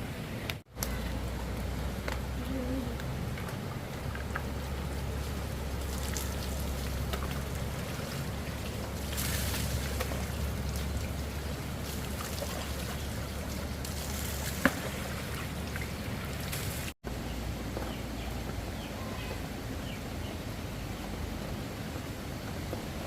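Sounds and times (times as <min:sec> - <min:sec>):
rain and running water: 0:00.0 - 0:23.0.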